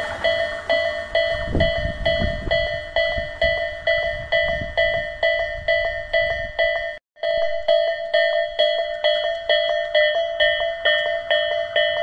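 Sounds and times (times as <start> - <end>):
electric train rumbling: 0.0 - 12.0
level crossing bell ringing: 0.0 - 12.0.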